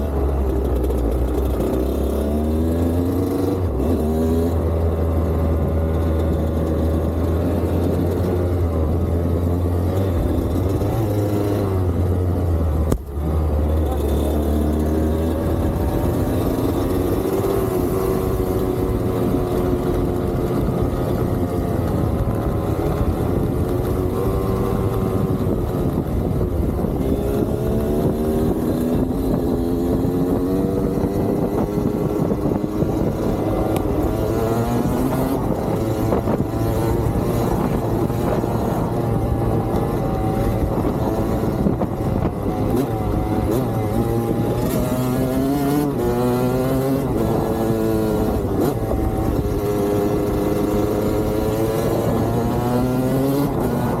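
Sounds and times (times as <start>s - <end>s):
dirt bike engine accelerating: 0.0s - 54.0s.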